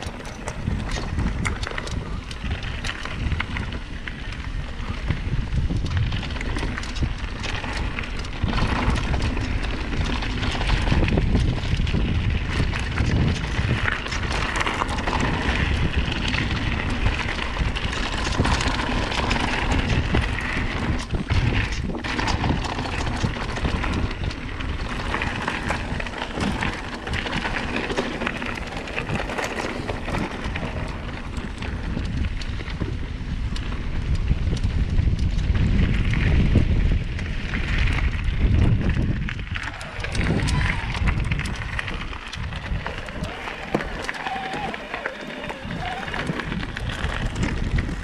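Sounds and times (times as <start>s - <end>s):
bike knocking and rattling: 0.0s - 48.0s
bike tyre noise: 0.0s - 48.0s
wind buffeting microphone: 0.0s - 48.0s.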